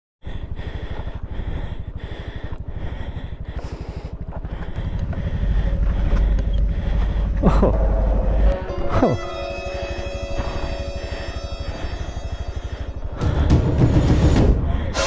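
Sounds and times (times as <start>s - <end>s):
motorcycle engine running: 0.4s - 15.0s.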